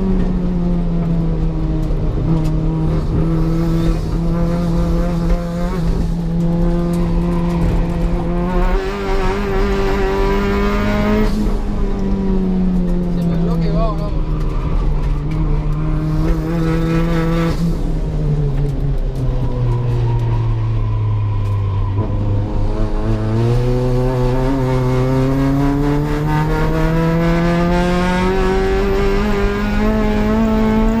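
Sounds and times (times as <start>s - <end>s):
race car engine: 0.0s - 31.0s.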